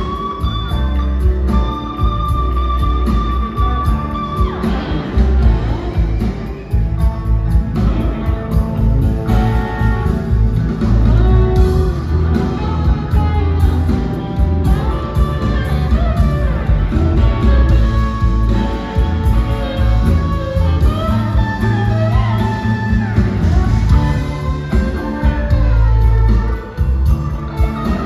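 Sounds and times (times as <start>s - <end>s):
electric guitars bending notes: 0.0s - 28.0s
live rock band playing blues: 0.0s - 28.0s.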